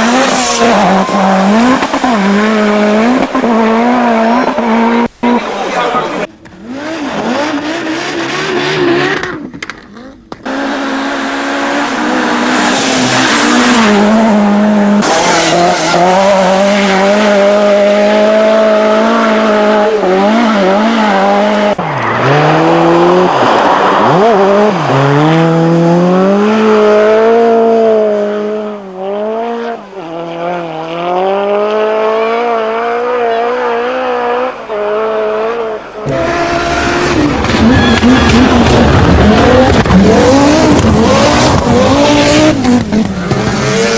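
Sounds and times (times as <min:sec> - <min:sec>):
rally car engine revving: 0:00.0 - 0:43.9.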